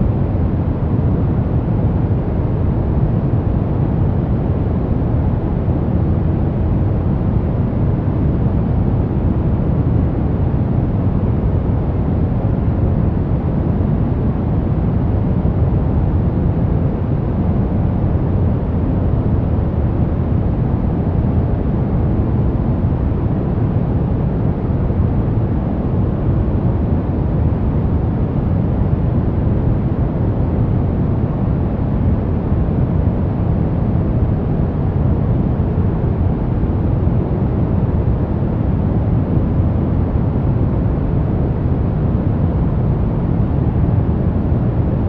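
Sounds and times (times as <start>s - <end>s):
deep steady noise rush: 0.0s - 45.0s.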